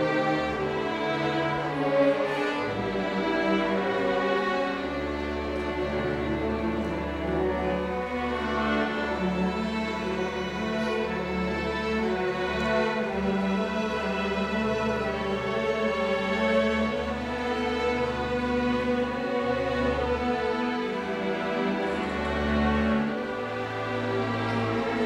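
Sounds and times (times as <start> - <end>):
bowed strings: 0.0 - 25.0.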